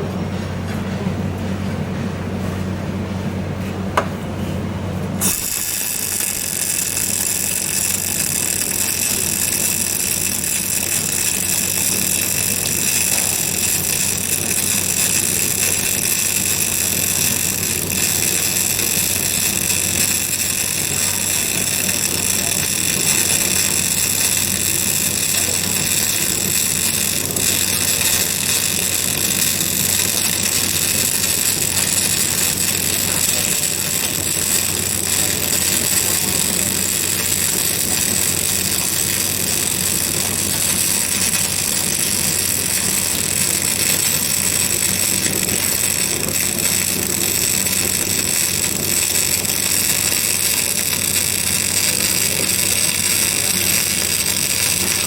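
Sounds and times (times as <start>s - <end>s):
welding arc hissing and crackling: 5.2s - 55.0s.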